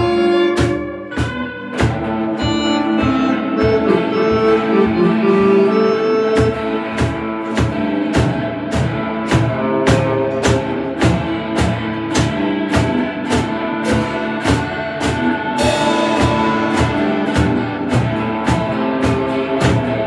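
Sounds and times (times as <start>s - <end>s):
drum kit beat: 0.0s - 20.0s
electric guitars playing: 0.0s - 20.0s.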